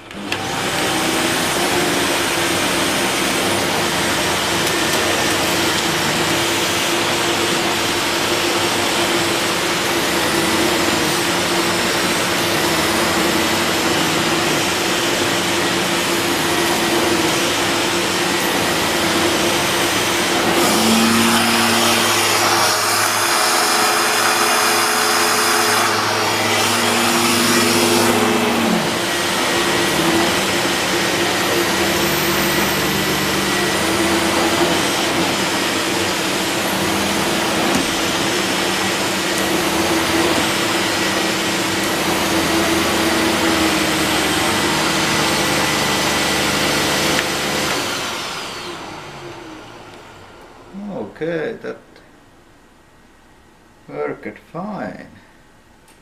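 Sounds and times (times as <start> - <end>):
vacuum cleaner running on carpet: 0.0 - 51.0.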